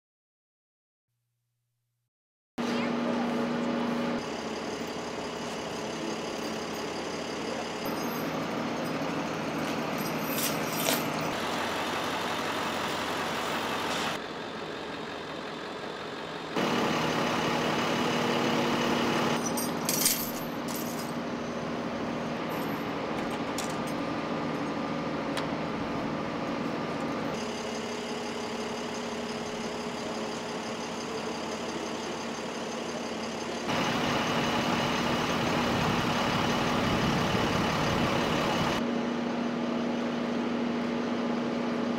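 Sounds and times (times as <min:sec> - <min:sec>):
street background noise: 0:02.6 - 0:41.9
truck engines idling: 0:02.8 - 0:41.9.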